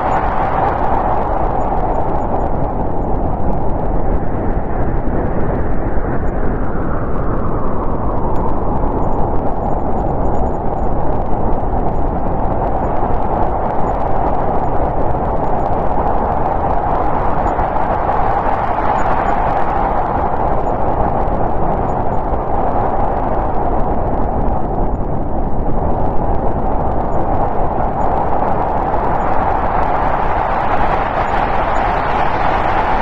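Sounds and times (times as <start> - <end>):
snowstorm wind gusting: 0.0 - 33.0.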